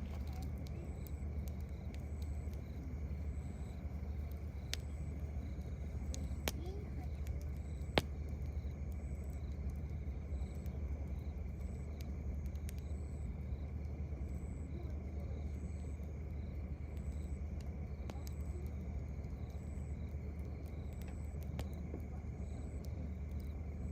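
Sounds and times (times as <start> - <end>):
campfire crackles: 0.0 - 23.9
continuous low rumble: 0.0 - 23.9
insect chirping: 0.0 - 23.9.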